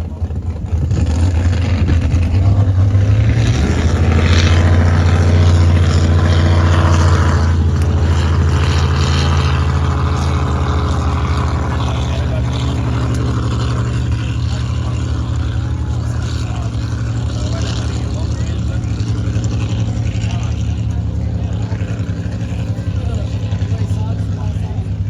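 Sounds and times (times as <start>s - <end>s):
boat engine deep rumble: 0.0s - 25.0s.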